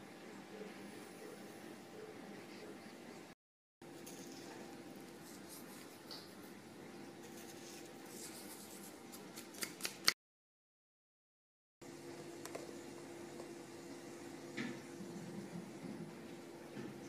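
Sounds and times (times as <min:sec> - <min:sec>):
low room hum: 0:00.0 - 0:10.2, 0:11.8 - 0:17.0.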